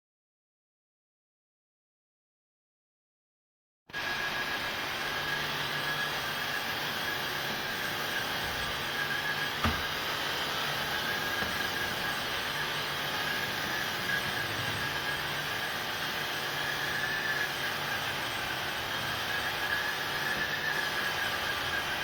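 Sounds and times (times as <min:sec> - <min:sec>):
floor vacuum running: 0:03.9 - 0:22.0.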